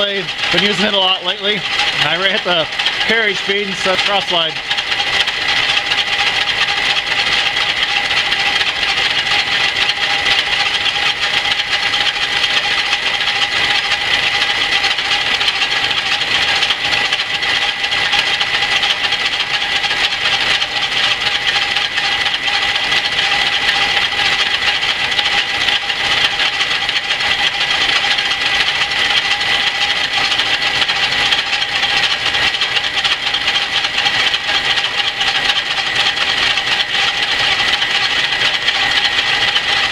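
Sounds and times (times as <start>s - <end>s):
constant machine whine: 0.0s - 39.9s
metal lathe cutting steel: 0.0s - 39.9s.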